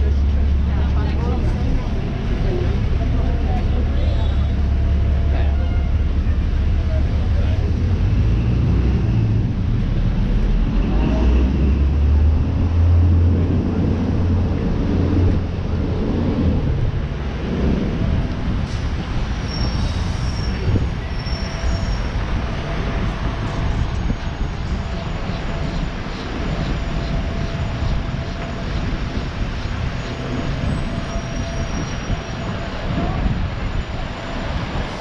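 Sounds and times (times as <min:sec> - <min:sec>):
heavy vehicle engine rumble: 0:00.0 - 0:35.0
street traffic: 0:00.0 - 0:35.0.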